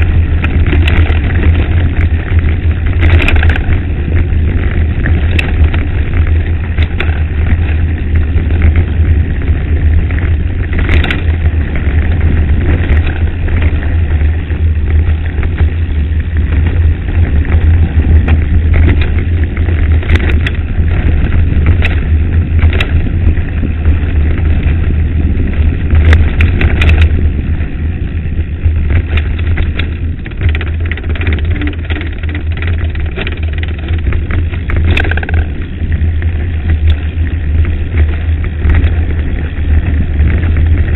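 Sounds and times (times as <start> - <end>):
stones and bike rattling: 0.0 - 40.9
wind and tyre rumble: 0.0 - 40.9.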